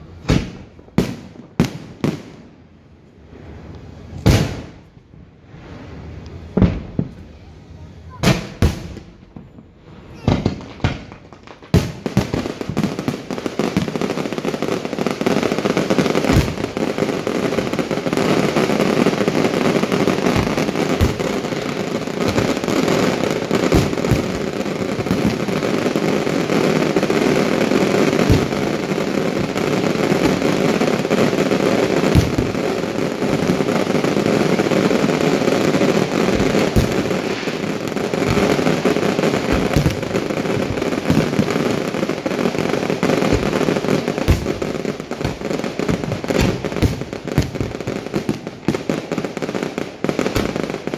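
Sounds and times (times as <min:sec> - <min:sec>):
fireworks bursts and crackling: 0:00.0 - 0:50.9.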